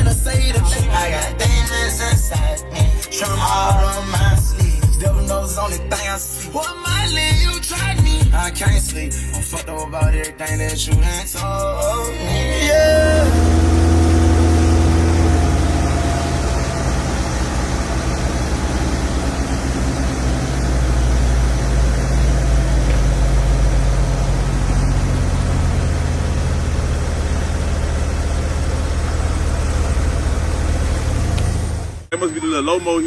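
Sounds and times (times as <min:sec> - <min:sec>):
low engine rumble: 0:00.0 - 0:33.0.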